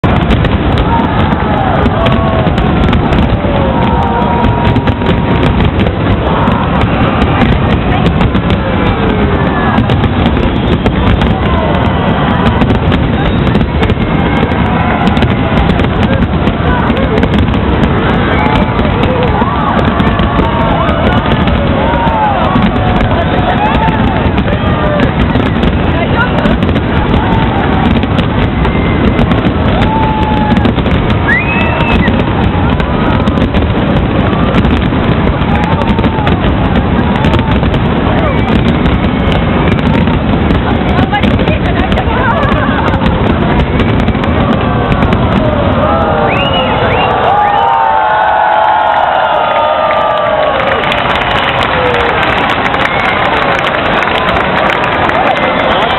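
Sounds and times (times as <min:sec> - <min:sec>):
continuous rumble: 0:00.0 - 0:47.4
falling firework whistle: 0:00.0 - 0:55.9
fireworks bangs and crackles: 0:00.0 - 0:55.9.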